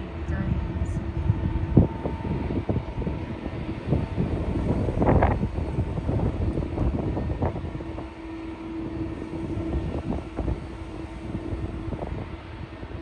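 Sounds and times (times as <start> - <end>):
distant jet engine rumble: 0.0 - 13.0
steady hum: 0.0 - 13.0
wind buffeting microphone: 0.0 - 13.0.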